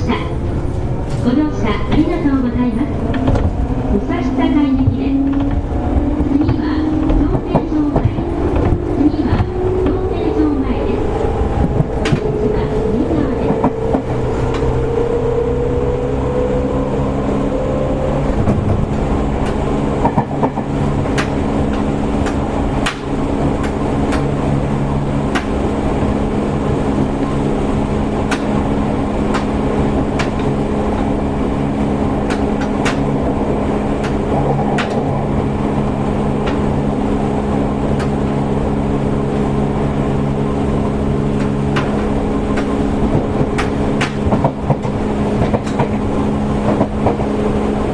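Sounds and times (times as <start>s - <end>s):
electric train motor hum: 0.0s - 47.9s
rail joint clacks: 0.0s - 47.9s.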